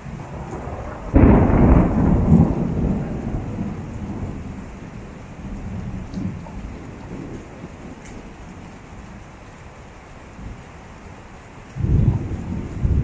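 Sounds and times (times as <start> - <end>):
thunderclap rumbling: 0.0 - 9.2, 11.7 - 13.0
steady rain: 0.0 - 13.0.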